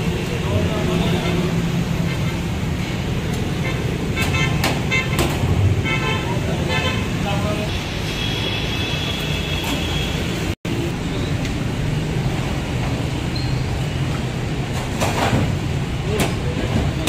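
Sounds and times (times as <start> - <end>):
road traffic rumble: 0.0 - 17.0
street bustle: 0.0 - 17.0.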